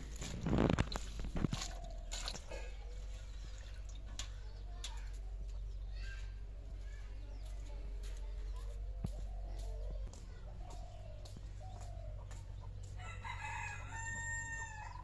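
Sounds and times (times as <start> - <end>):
birds calling faintly: 0.0 - 15.0.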